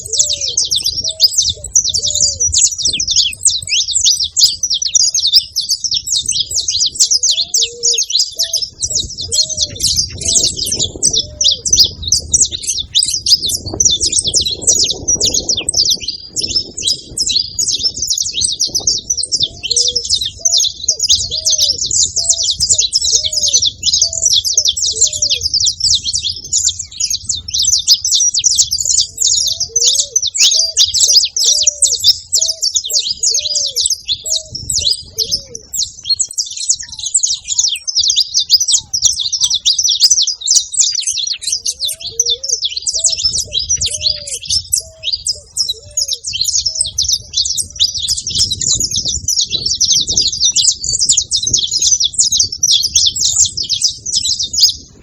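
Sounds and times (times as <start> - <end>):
finches chirping and singing: 0.0 - 55.0.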